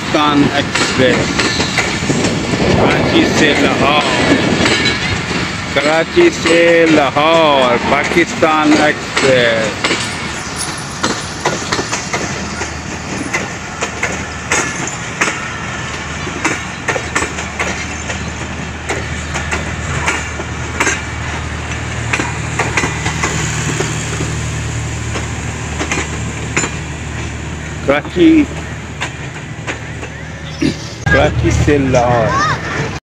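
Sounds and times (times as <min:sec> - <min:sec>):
train wheels clicking over rail joints: 0:00.0 - 0:30.9
train rumble: 0:00.0 - 0:33.0.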